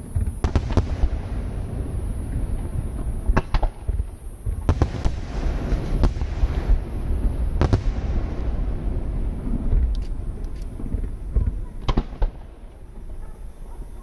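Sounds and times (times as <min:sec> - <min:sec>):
low rumble and crackle: 0:00.0 - 0:14.0.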